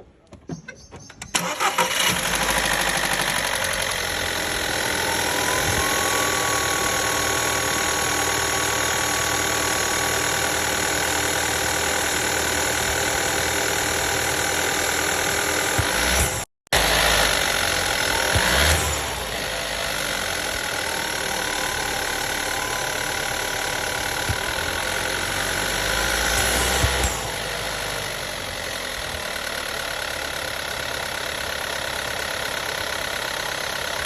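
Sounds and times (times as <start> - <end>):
car engine starting and idling: 1.0 - 34.0.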